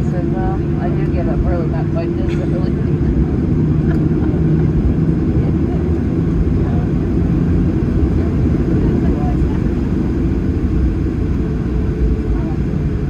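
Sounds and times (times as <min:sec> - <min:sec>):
airplane cabin rumble: 0:00.0 - 0:13.0
jet engine hum: 0:00.0 - 0:13.0.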